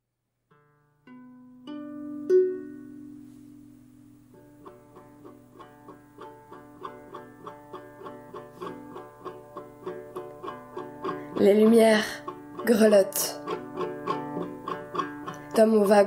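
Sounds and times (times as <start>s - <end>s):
plucked string instrument: 0.5s - 16.0s.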